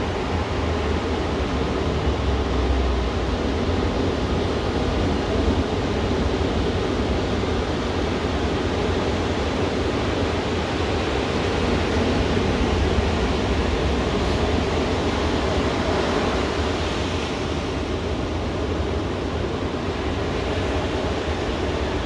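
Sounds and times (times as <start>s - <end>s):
ocean surf breaking on beach: 0.0s - 22.0s.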